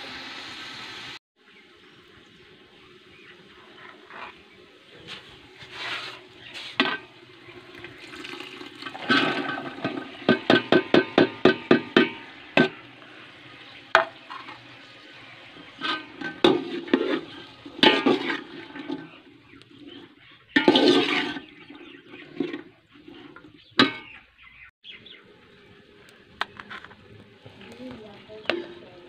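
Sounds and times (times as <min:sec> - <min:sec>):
vegetables sizzling in hot oil: 0:00.0 - 0:03.3, 0:04.7 - 0:21.7, 0:24.8 - 0:29.0
spatula stirring and scraping pot: 0:03.2 - 0:24.3, 0:25.1 - 0:29.0.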